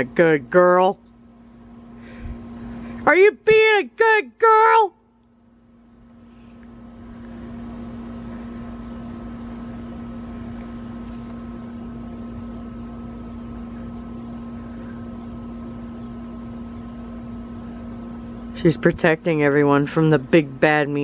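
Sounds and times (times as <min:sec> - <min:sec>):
faint high whine: 0:00.0 - 0:21.0
steady low machine hum: 0:00.0 - 0:21.0.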